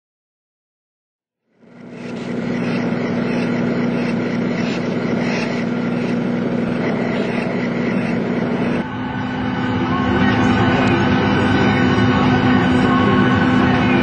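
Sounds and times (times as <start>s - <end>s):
airport machinery drone: 1.5s - 14.0s.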